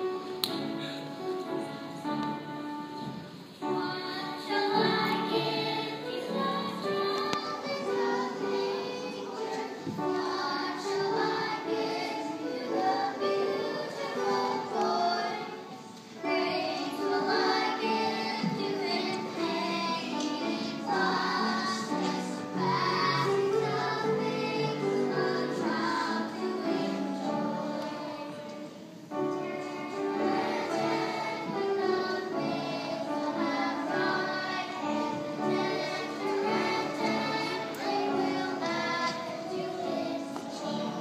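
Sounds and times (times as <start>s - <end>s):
children's choir singing: 0.0s - 41.0s
upright piano accompaniment: 0.0s - 41.0s.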